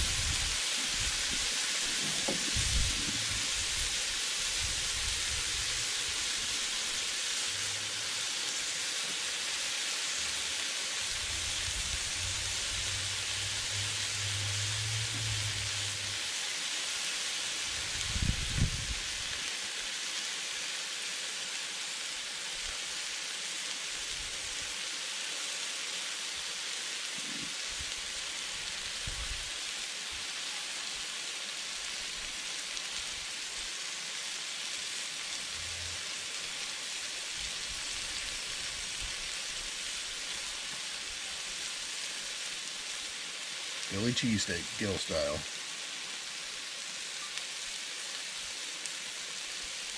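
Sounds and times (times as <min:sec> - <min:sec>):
meat and peppers sizzling on griddle: 0:00.0 - 0:49.9.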